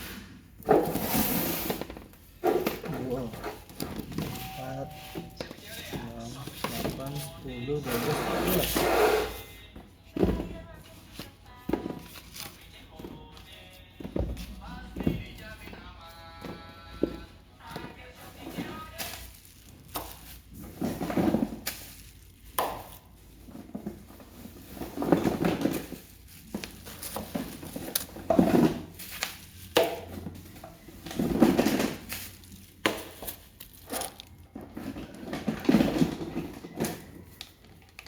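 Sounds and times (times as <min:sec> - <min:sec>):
packaging rustling and crinkling: 0:00.7 - 0:08.8, 0:10.3 - 0:38.0.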